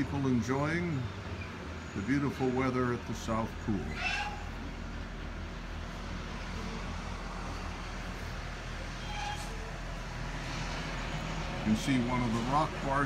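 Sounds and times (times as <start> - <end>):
low mechanical hum: 0.0 - 13.0
outdoor background noise: 0.0 - 13.0.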